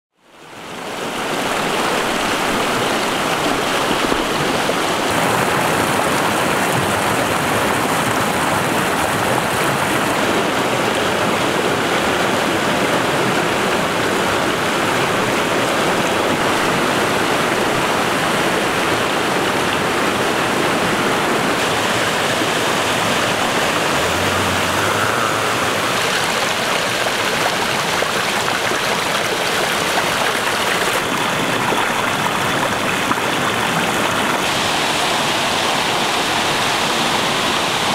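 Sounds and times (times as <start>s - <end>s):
stream rushing over rocks: 0.2s - 37.9s.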